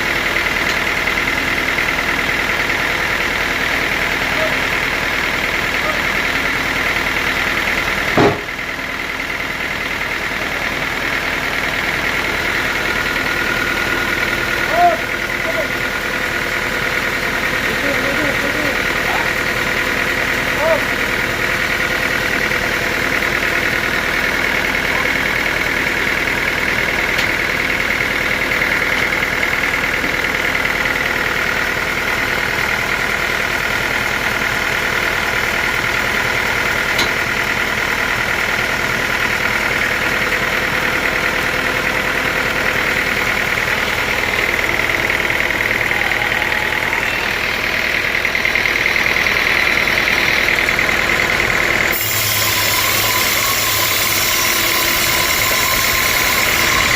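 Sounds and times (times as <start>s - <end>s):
high steady machine whine: 0.0s - 56.9s
sawmill motor hum: 0.0s - 56.9s.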